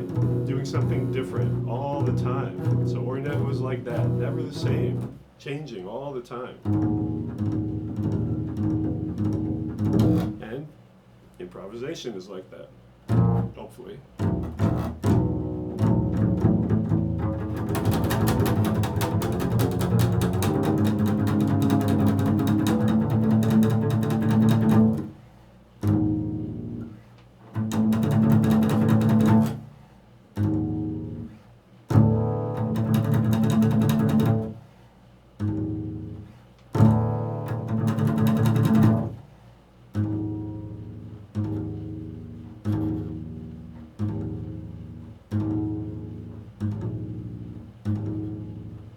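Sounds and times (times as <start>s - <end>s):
double bass playing jazz: 0.0s - 10.8s, 13.0s - 48.9s.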